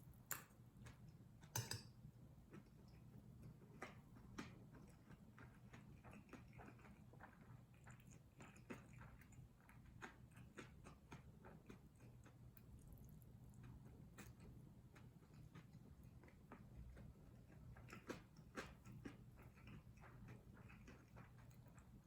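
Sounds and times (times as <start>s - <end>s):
close-up chewing mouth clicks: 2.5s - 22.0s.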